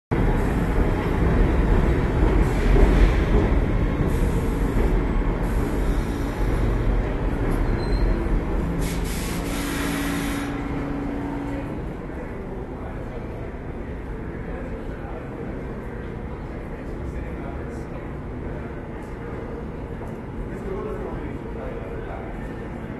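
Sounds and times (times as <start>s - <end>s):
subway train rumbling: 0.1s - 22.9s.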